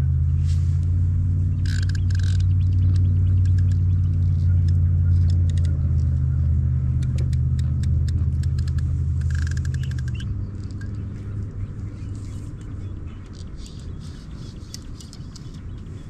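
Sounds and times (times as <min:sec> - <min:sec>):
low engine-like rumble: 0:00.0 - 0:16.0
faint ticks and chirps: 0:01.6 - 0:16.0.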